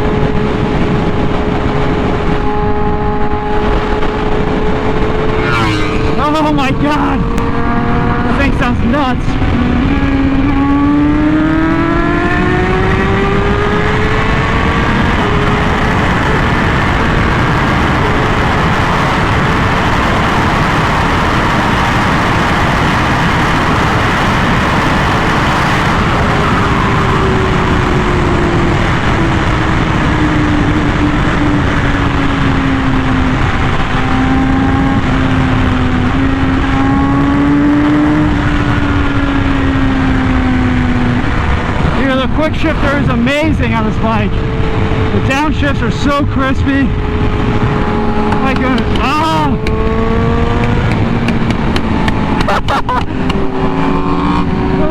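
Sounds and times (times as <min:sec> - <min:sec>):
motorcycle engine at high revs: 0:00.0 - 0:54.9
wind noise: 0:00.0 - 0:54.9.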